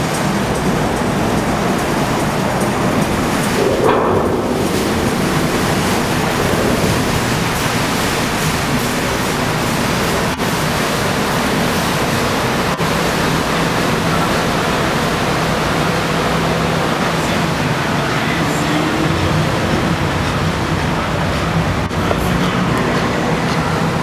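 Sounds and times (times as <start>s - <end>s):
boat engines and churning water: 0.0s - 24.0s.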